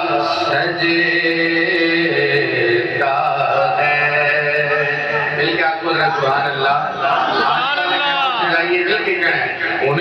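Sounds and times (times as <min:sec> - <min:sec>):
man chanting: 0:00.0 - 0:10.0.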